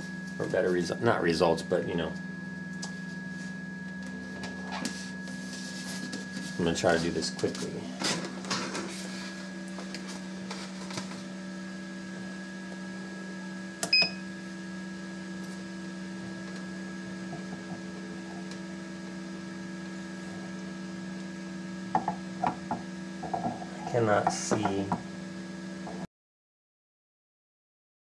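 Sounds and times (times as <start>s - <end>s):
incubator fans humming: 0.0s - 26.1s.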